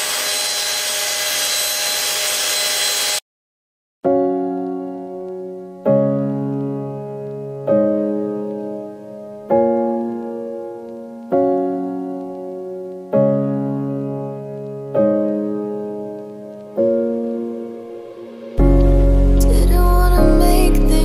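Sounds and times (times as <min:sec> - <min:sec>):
slow piano chords: 0:04.1 - 0:21.0.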